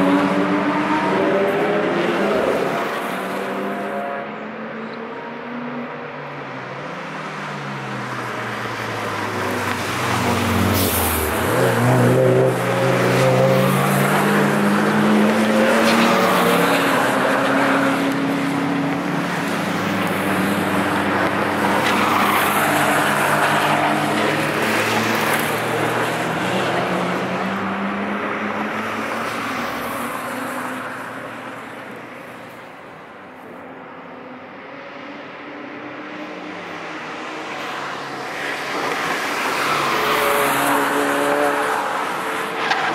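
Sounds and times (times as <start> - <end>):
cars driving past at speed: 0.0 - 33.2, 34.4 - 42.9.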